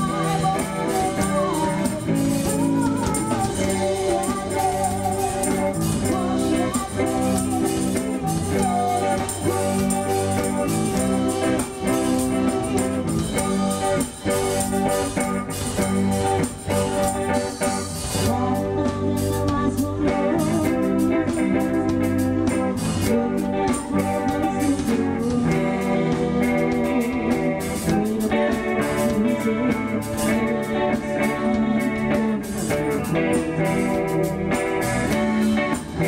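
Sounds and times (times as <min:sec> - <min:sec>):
drum kit: 0:00.0 - 0:36.0
guitar: 0:00.0 - 0:36.0
keyboard: 0:00.0 - 0:36.0
woman singing: 0:00.0 - 0:36.0.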